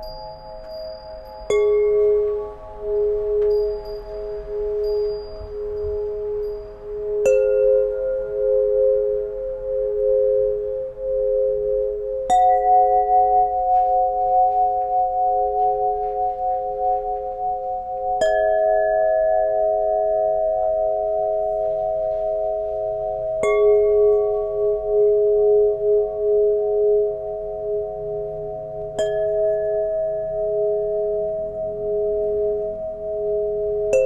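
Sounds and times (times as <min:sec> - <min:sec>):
tuning pipes ringing: 0:00.0 - 0:34.0.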